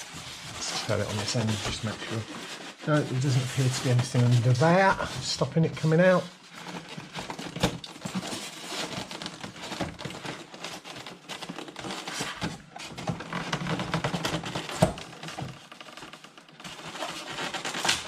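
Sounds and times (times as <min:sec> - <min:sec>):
foam packaging squeaking: 0:00.0 - 0:18.0.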